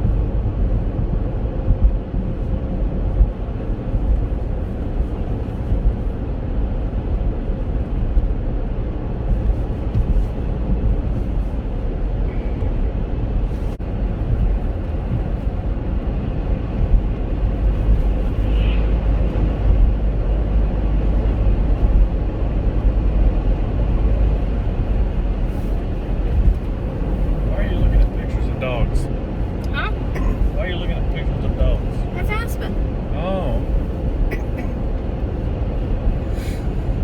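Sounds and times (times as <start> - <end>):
car cabin road and engine rumble: 0.0 - 37.0.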